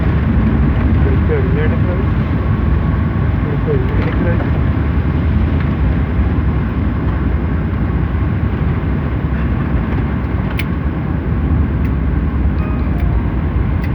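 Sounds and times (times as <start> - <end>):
airliner cabin rumble: 0.0 - 13.9.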